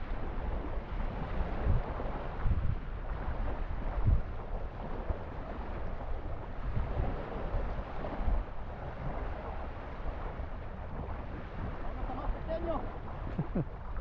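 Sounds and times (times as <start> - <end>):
small waves washing onto shore: 0.0 - 14.0
wind gusting on microphone: 0.0 - 14.0.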